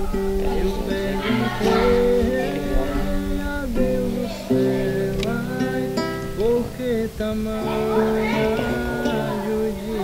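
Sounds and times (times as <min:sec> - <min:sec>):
man singing slow melody: 0:00.0 - 0:10.0
strummed acoustic guitar: 0:00.0 - 0:10.0.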